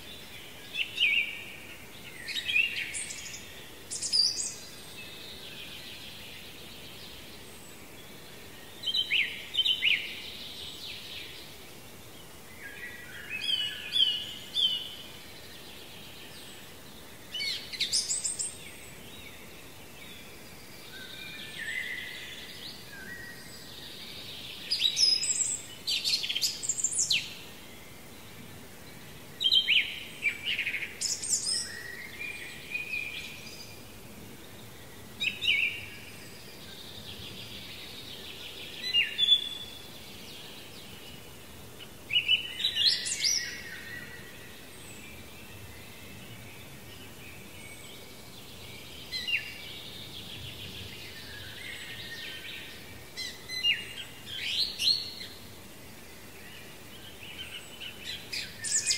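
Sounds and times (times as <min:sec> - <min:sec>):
quiet background hiss: 0:00.0 - 0:58.9.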